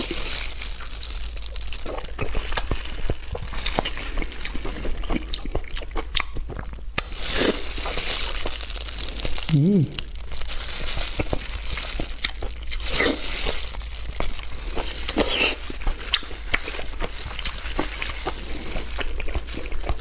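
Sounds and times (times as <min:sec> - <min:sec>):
wet chewing and lip-smacking: 0:01.6 - 0:07.9, 0:09.3 - 0:13.2, 0:14.1 - 0:20.0.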